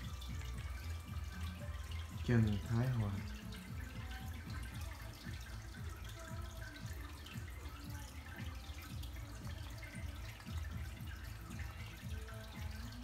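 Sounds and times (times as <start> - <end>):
karaoke backing track beat: 0.0 - 13.0.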